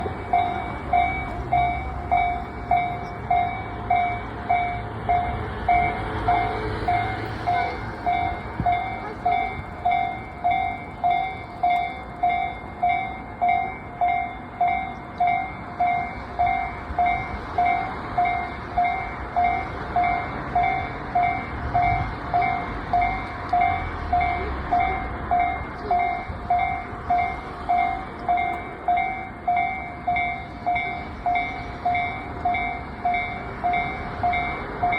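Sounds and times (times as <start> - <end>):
level crossing warning bell ringing: 0.0 - 34.9.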